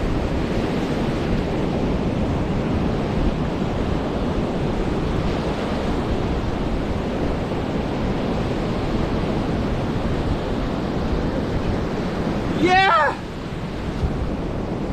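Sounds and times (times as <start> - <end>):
ocean waves washing on beach: 0.0 - 14.9.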